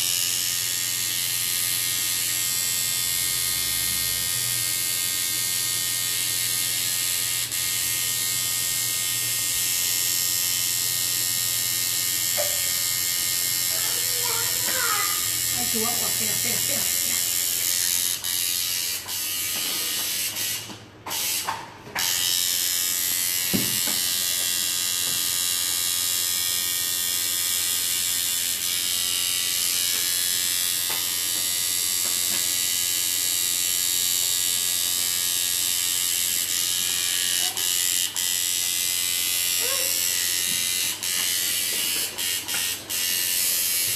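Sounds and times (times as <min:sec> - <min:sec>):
tattoo machine buzzing: 0:00.0 - 0:43.9.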